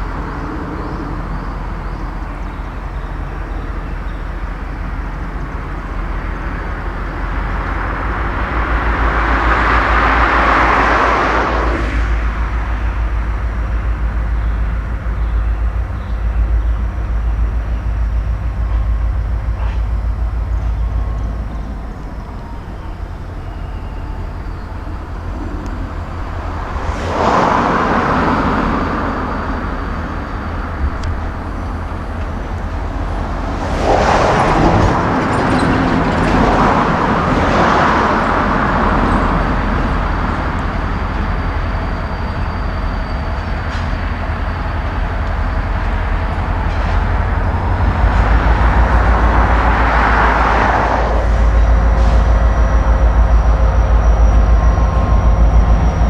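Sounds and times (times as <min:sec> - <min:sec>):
diesel locomotive engine rumbling: 0:00.0 - 0:56.0
rushing noise: 0:00.0 - 0:56.0.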